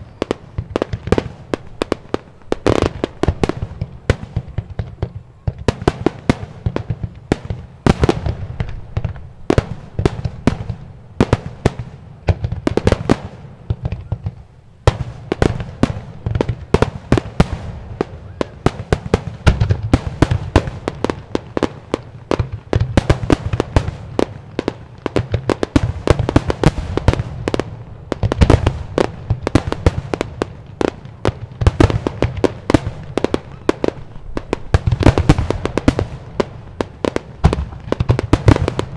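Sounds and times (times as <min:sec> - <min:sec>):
fireworks bursts and bangs: 0:00.0 - 0:38.9.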